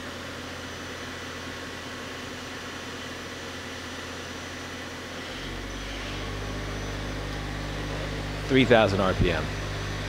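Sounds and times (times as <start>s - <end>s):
lathe spindle humming: 0.5s - 10.0s.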